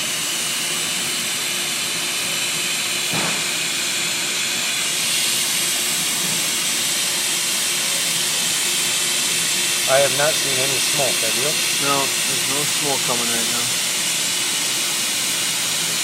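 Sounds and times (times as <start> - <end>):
hiss of hot-gas welding gun: 2.2 - 16.0.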